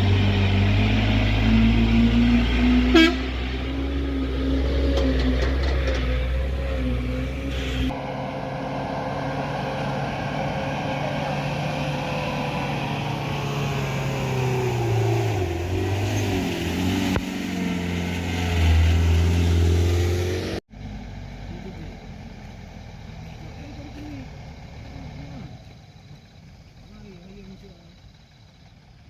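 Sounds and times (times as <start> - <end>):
heavy truck engine under load: 0.0 - 29.0.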